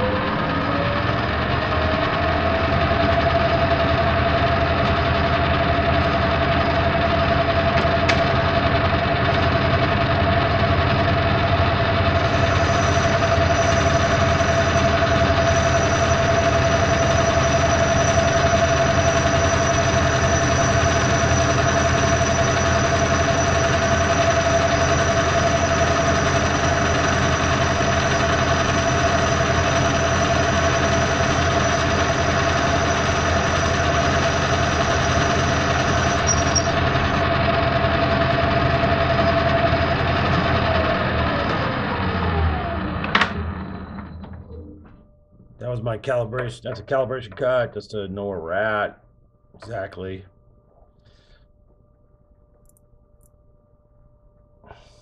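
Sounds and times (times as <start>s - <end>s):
lathe spindle winding down: 0.0s - 45.0s
metal lathe whining: 0.0s - 45.1s.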